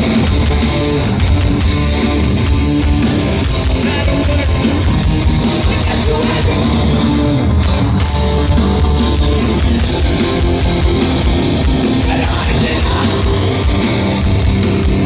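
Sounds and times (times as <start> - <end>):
bass guitar: 0.0 - 15.0
distorted electric guitars: 0.0 - 15.0
drums with cymbal hits: 0.0 - 15.0.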